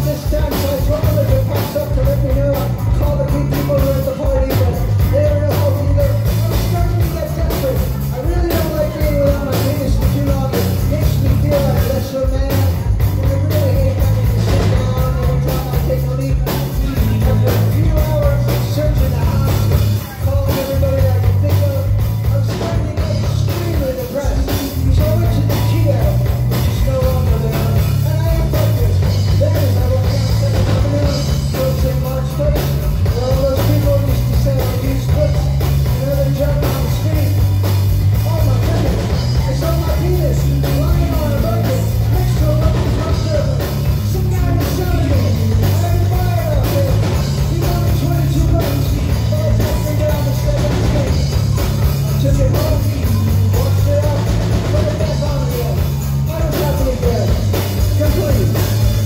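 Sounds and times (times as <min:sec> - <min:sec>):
drums: 0:00.0 - 0:59.0
man singing into a microphone: 0:00.0 - 0:59.0.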